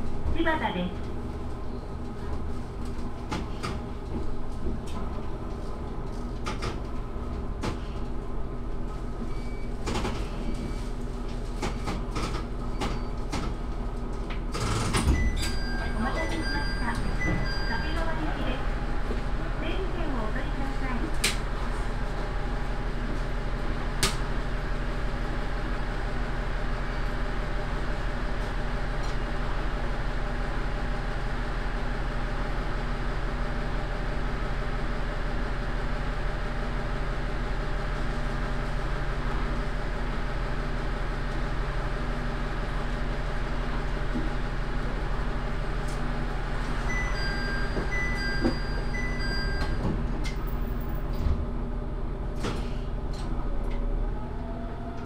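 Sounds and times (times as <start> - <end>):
diesel railcar engine hum: 0.0 - 55.0
rail and wheel noise: 0.0 - 55.0.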